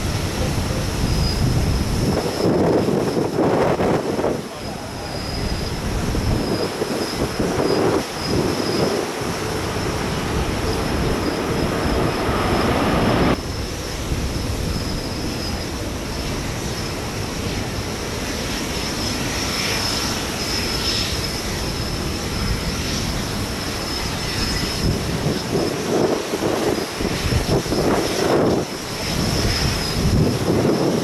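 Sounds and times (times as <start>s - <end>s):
jet engines roaring: 0.0s - 31.0s
wind: 0.0s - 31.0s.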